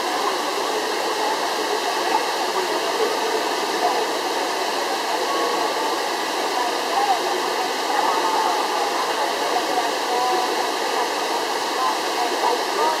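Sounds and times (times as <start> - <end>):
fountain water cascading: 0.0 - 13.0
indistinct chatter of voices: 0.0 - 13.0.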